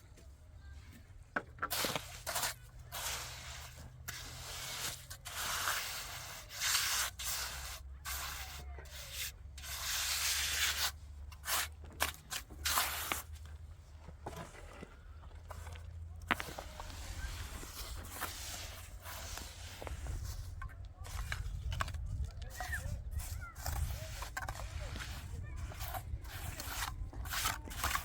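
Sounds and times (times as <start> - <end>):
rasping scraping strokes: 1.6 - 13.5, 14.2 - 28.0.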